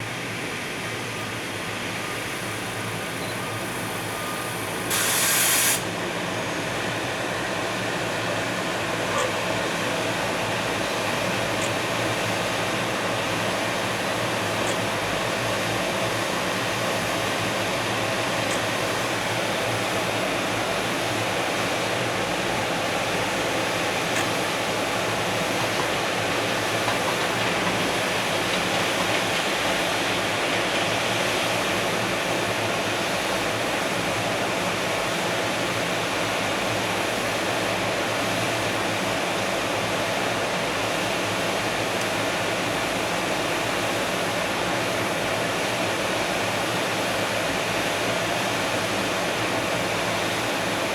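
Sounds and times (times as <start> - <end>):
freight train wagons rolling past: 5.8 - 50.9.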